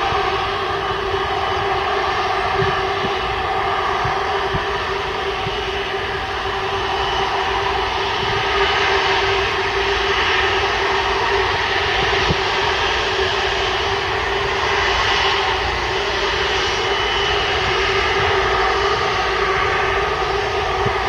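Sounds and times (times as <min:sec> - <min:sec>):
jet engines humming: 0:00.0 - 0:21.0.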